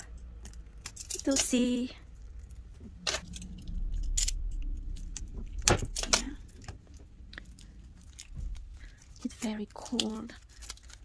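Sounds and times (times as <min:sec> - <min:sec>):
low handling rumble: 0:00.0 - 0:11.0.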